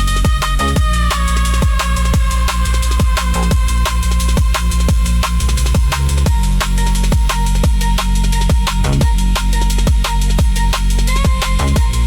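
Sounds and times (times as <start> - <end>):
breakbeat drum pattern: 0.0 - 12.0
heavy sustained bass: 0.0 - 12.0.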